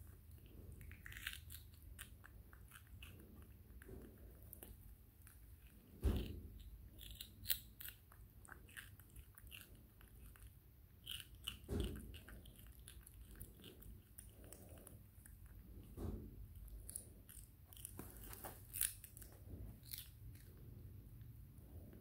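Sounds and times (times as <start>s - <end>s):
monkey chewing cucumber: 0.0s - 20.6s.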